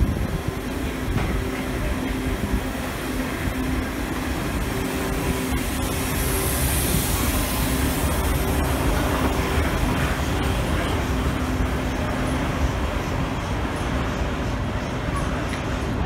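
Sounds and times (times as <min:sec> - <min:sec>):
faint steady hums: 0:00.0 - 0:16.0
steam locomotive rumble and hiss: 0:00.0 - 0:16.0.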